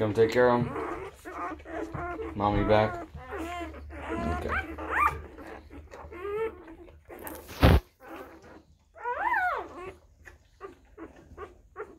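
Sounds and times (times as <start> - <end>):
puppies whimpering: 0.0 - 11.9.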